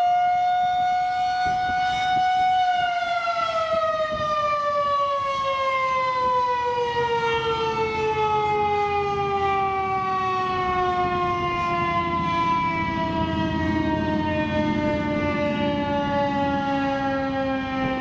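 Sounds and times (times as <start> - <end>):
warning siren winding down: 0.0 - 18.0.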